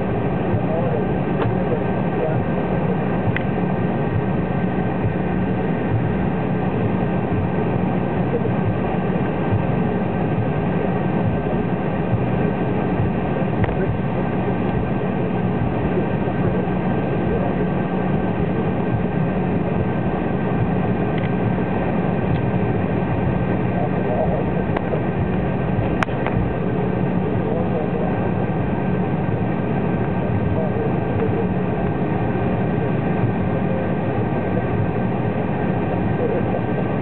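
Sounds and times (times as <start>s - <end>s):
jet engines at taxi power: 0.0s - 37.0s.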